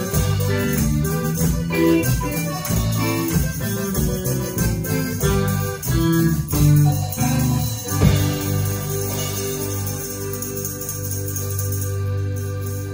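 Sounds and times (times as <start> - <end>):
accordion: 0.0 - 12.9
bass guitar: 0.0 - 12.9
drum kit: 0.0 - 12.9
electric guitar: 0.0 - 12.9.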